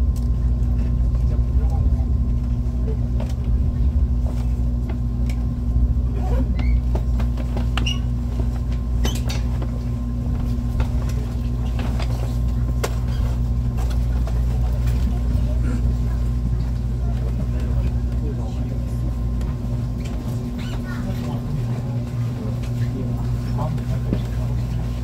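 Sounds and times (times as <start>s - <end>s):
train cabin rumble and hum: 0.0s - 25.0s.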